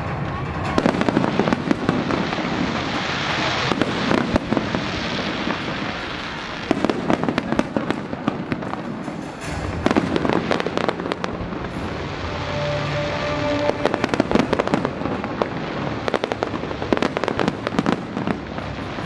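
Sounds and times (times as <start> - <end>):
continuous hiss: 0.0 - 19.0
fireworks bangs: 0.0 - 19.0.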